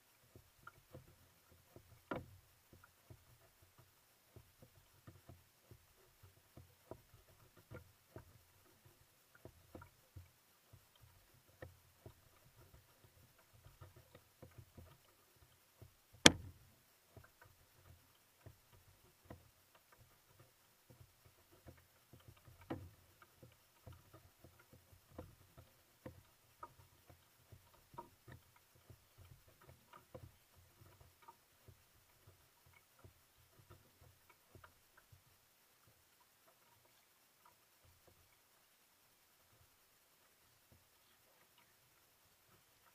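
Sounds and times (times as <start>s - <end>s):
kayak paddling ticks and knocks: 0.0s - 42.9s.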